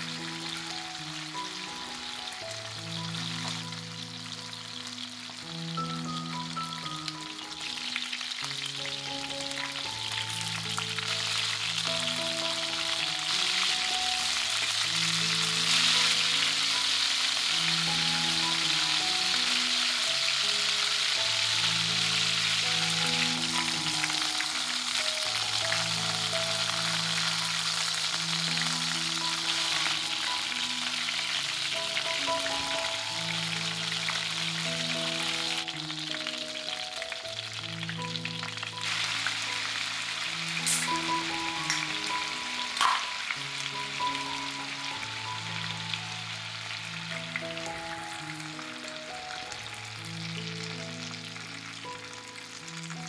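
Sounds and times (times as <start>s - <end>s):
chicken wings sizzling in oil: 0.0s - 53.0s
soft background music: 0.0s - 53.0s.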